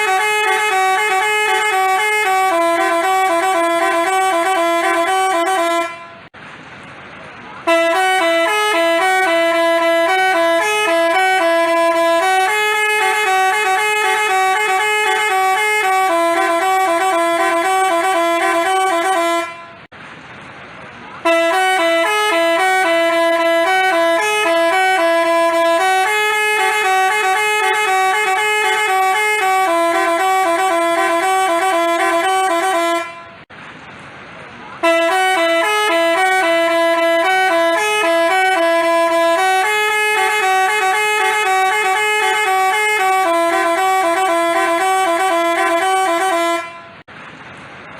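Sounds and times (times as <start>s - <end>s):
multi-tone bus horn melody: 0.0s - 6.4s, 7.5s - 19.9s, 21.2s - 33.5s, 34.8s - 47.1s.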